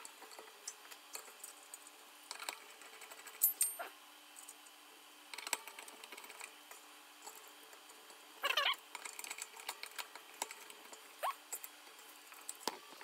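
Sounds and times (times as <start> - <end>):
fan and screws clicking on heatsink: 0.0 - 13.0.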